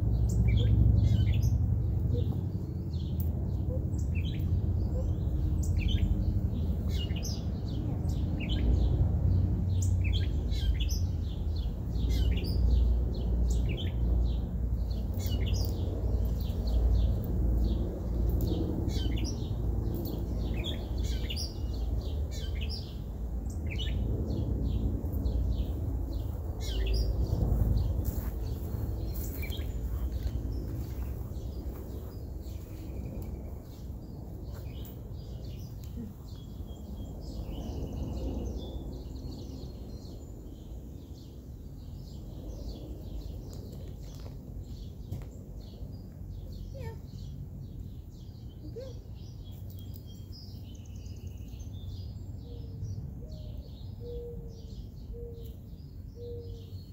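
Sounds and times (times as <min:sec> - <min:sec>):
steady low rumble: 0:00.0 - 0:53.2
small birds chirping: 0:00.0 - 0:56.9.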